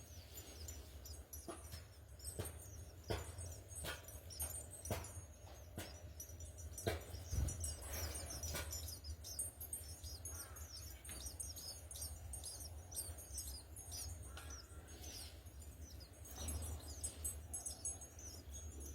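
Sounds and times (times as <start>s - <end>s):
low steady hum: 0.0s - 18.9s
sparrows chirping: 0.0s - 18.9s.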